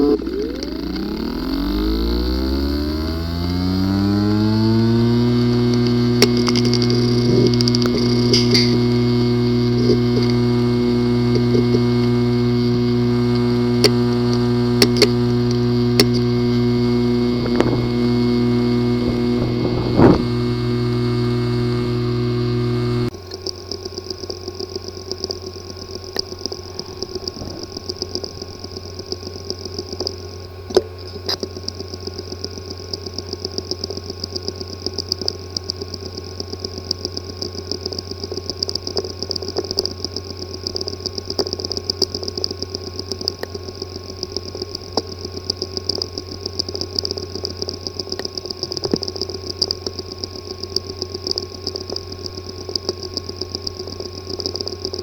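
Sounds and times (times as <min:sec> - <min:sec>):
hard drive buzzing whir: 0:00.0 - 0:55.0
hard drive ticking: 0:00.0 - 0:55.0
sharp hard drive click: 0:03.6 - 0:55.0.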